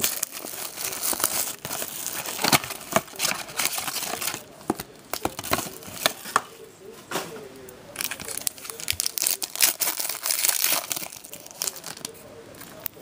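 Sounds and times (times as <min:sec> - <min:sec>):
wrapping crinkling and snapping: 0:00.0 - 0:06.2, 0:08.0 - 0:13.0.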